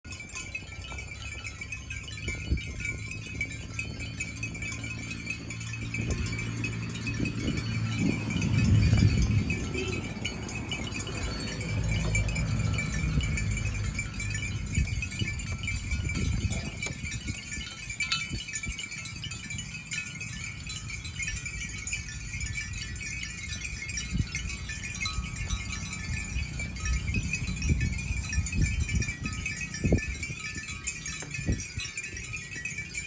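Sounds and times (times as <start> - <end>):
bells clinking and jingling: 0.0 - 33.0.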